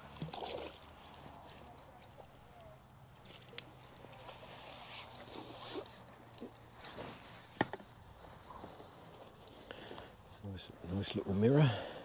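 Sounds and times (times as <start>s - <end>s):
fishing pole and net rustling: 0.0s - 11.3s.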